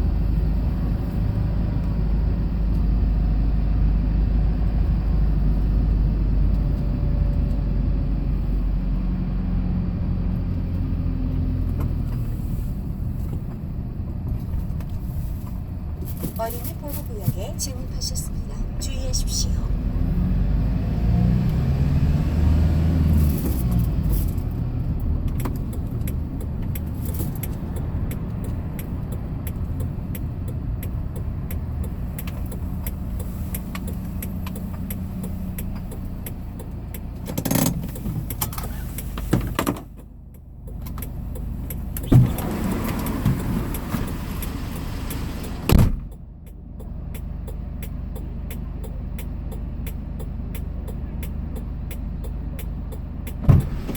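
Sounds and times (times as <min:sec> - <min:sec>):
truck engine and road rumble: 0:00.0 - 0:53.9.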